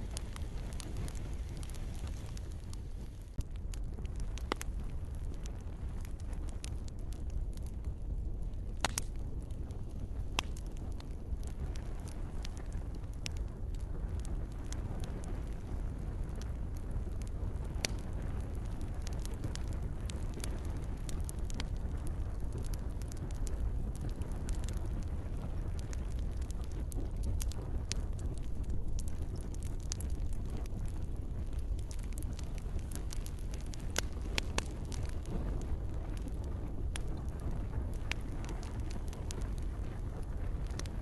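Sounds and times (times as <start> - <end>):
campfire pops and snaps: 0.0 - 41.0
low rumble of burning: 0.0 - 41.0.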